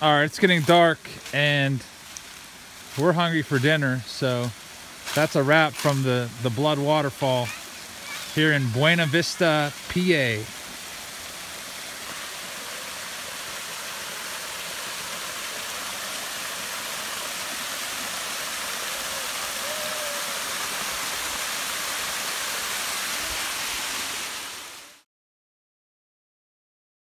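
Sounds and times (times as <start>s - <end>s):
small waterfall splashing: 0.0s - 25.0s.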